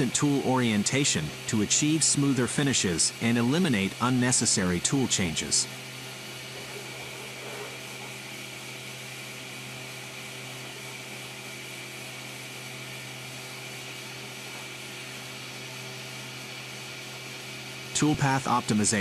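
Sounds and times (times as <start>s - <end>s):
milling machine humming: 0.0s - 19.0s.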